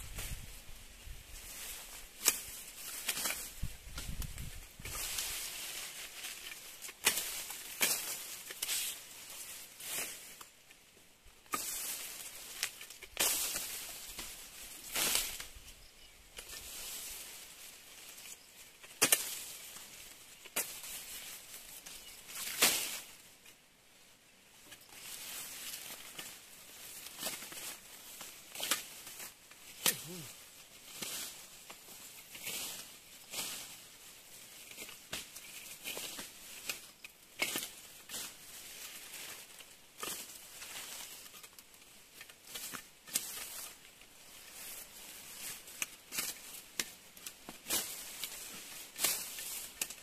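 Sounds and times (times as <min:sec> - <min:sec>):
long leaves swishing and rustling: 0:00.0 - 0:50.0
blade cutting grass stalks: 0:01.4 - 0:10.6, 0:11.4 - 0:15.6, 0:16.4 - 0:23.2, 0:24.8 - 0:50.0.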